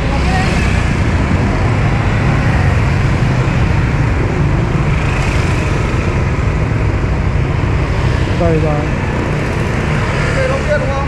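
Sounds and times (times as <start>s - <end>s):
motorbike traffic noise: 0.0s - 11.0s.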